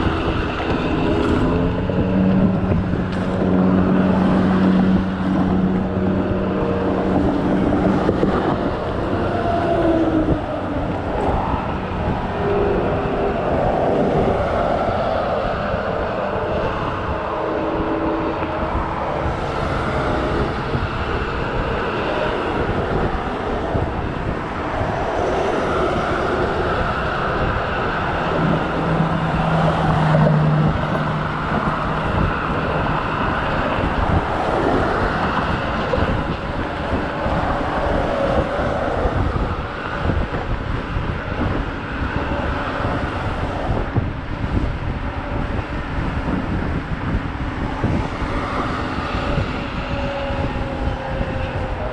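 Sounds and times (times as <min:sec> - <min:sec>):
tyre and road noise: 0:00.0 - 0:51.9
wind buffeting microphone: 0:00.0 - 0:51.9.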